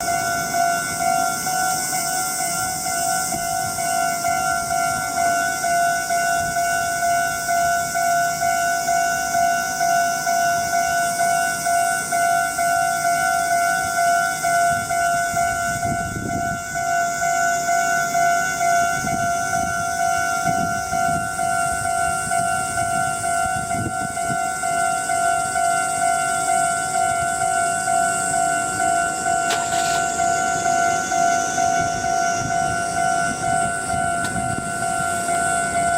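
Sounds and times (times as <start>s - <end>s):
level crossing bell clanging: 0.0s - 35.9s.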